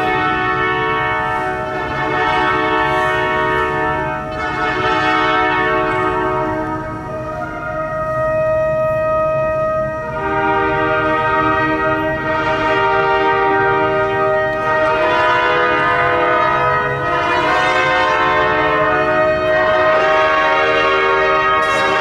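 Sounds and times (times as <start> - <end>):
orchestra playing sustained chords: 0.0 - 22.0.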